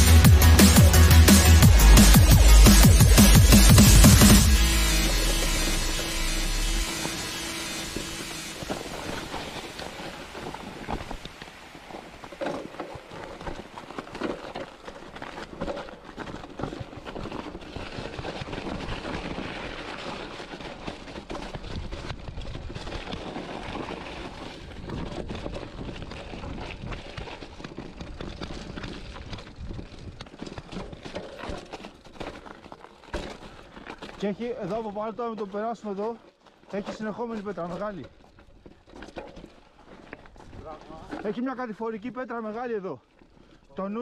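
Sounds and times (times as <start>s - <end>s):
tyres crunching over snow and stones: 0.0s - 44.0s
bike rattling over bumps: 6.9s - 44.0s.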